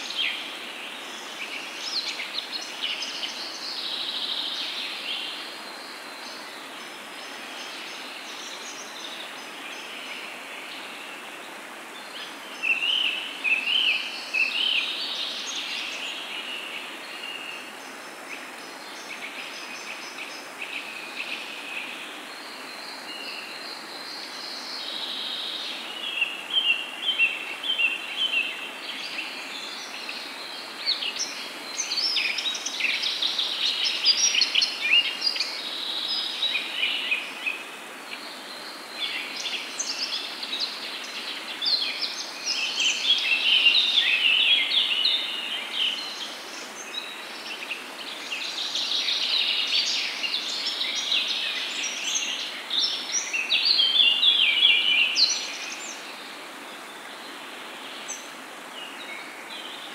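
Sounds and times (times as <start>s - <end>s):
small birds chirping: 0.0s - 59.9s
steady soft hiss: 0.0s - 59.9s.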